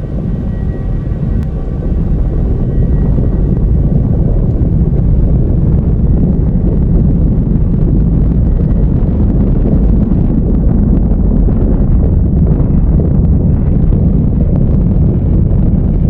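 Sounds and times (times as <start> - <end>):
roar of violent wind: 0.0 - 16.0.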